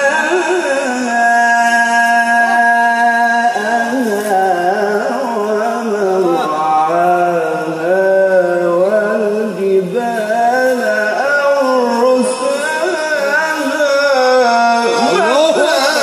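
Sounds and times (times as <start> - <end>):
man reciting in melodic chant: 0.0 - 16.0.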